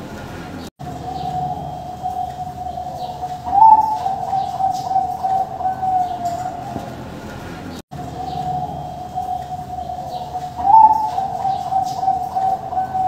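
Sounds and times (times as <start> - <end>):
doves cooing: 0.8 - 13.0.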